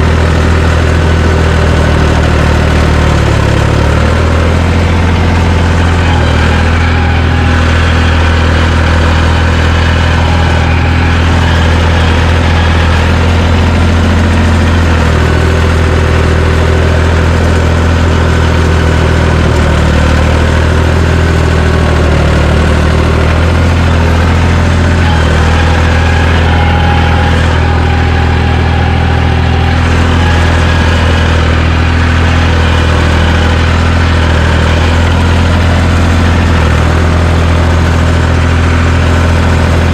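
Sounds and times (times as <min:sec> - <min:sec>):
dozer engine running: 0:00.0 - 0:39.9.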